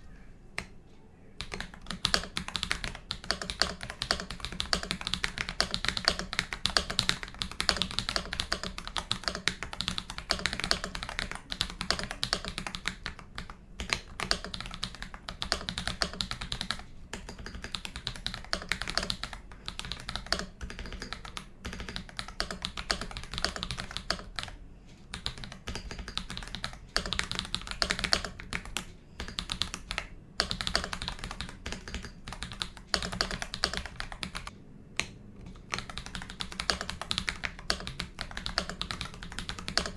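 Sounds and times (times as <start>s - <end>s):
mechanical keyboard typing: 1.4s - 39.9s.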